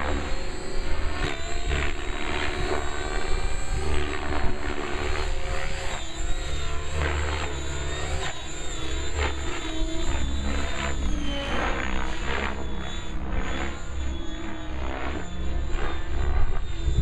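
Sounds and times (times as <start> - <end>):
model helicopter rotor and motor: 0.0 - 17.0.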